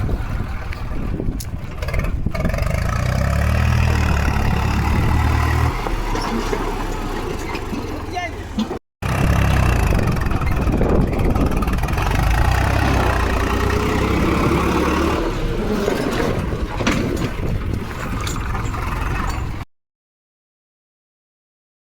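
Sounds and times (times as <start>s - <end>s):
tractor engine running: 0.0s - 19.7s.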